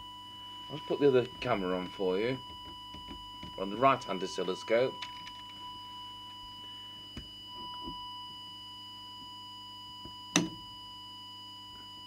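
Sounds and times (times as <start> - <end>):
steady test tone: 0.0 - 11.2
faint low hum: 0.0 - 12.0.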